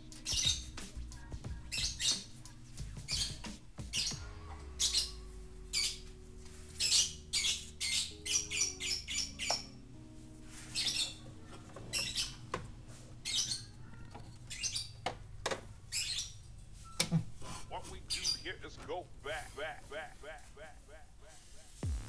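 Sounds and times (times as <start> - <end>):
small birds chirping: 0.0 - 21.4
faint music with low notes: 0.0 - 22.0.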